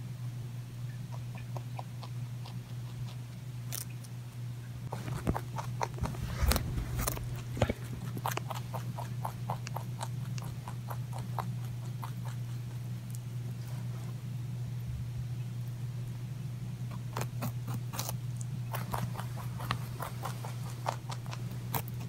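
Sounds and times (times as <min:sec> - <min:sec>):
steady low hum: 0:00.0 - 0:22.0
rabbit crunching carrot: 0:00.5 - 0:22.0.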